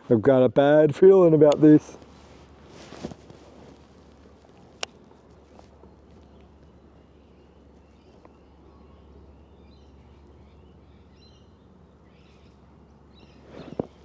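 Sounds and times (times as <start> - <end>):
low outdoor rumble: 0.0 - 14.0
birds chirping: 1.5 - 14.0.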